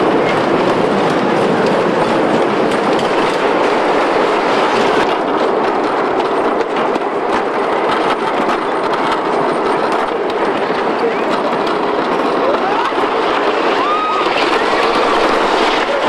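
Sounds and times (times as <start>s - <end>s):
clicking and rattling: 0.0s - 16.0s
roller coaster rumbling on track: 0.0s - 16.0s.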